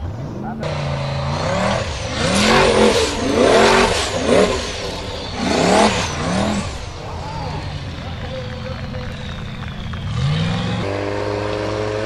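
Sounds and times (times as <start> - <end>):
buggy engine revving hard: 0.0 - 12.0.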